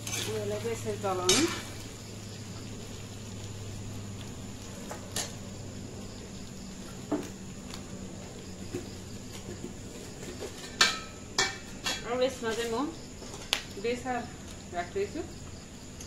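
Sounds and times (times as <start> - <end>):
meat sizzling in oil: 0.0 - 14.5
steady low hum: 0.0 - 16.0.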